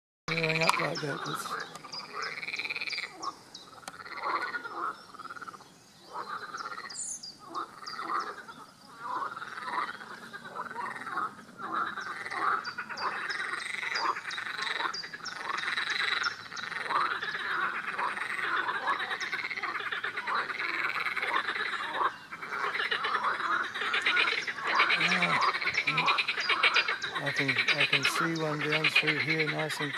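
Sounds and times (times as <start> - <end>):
frogs croaking: 0.3 - 29.9.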